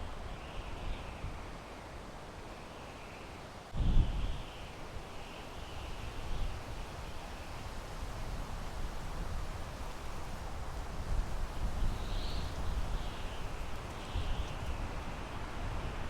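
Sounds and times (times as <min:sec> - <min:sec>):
wind blowing through pine trees: 0:00.0 - 0:16.0.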